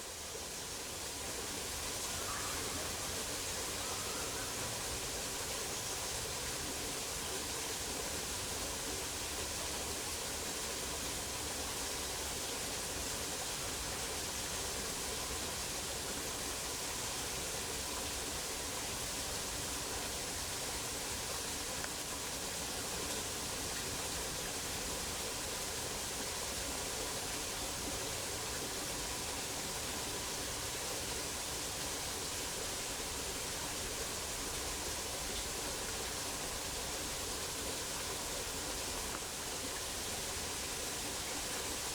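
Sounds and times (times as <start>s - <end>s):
steady hiss: 0.0s - 41.9s.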